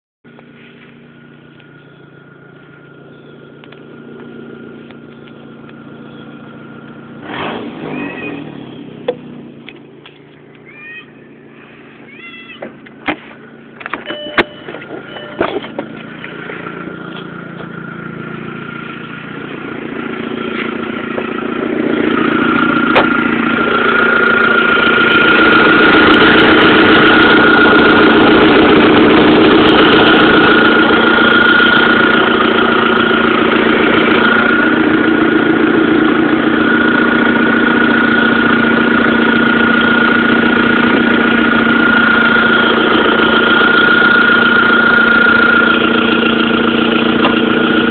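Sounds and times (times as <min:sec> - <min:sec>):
car engine idling: 0:00.2 - 0:47.9.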